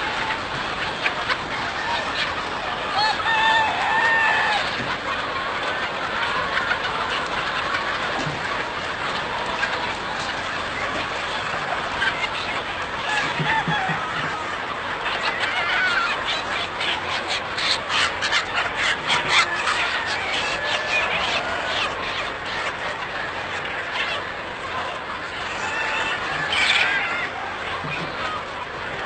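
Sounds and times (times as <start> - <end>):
chickens clucking: 0.0 - 29.0
drawn-out chicken calls: 0.0 - 29.0.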